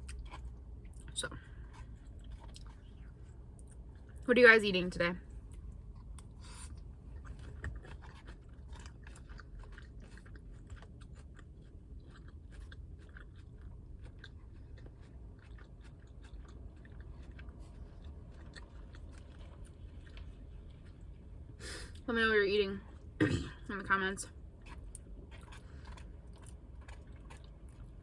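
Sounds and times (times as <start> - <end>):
person chewing crisp lettuce: 0.0 - 4.3, 5.3 - 22.0, 24.3 - 28.0.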